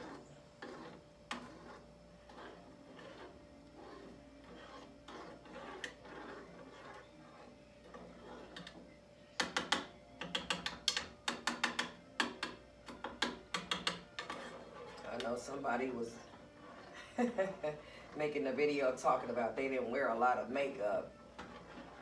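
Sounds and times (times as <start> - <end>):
spoon clinking and scraping pot: 0.0 - 18.4, 20.6 - 22.0.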